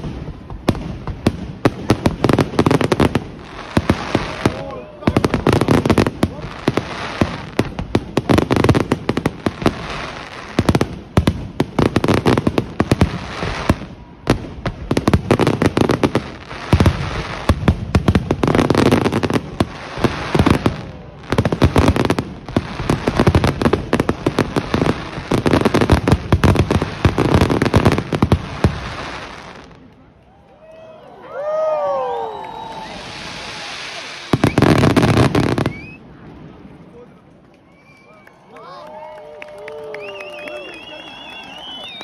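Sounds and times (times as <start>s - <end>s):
fireworks bangs: 0.0s - 29.9s, 31.5s - 37.2s.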